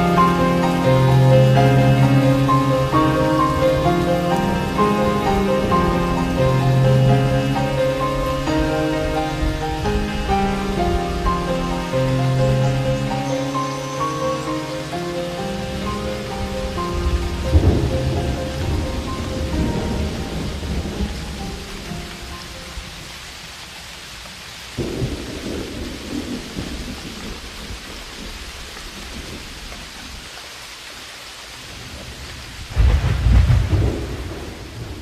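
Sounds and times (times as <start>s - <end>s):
thunder rumbling: 0.0s - 23.1s, 24.8s - 29.7s, 31.7s - 35.0s
steady rain falling: 0.0s - 35.0s.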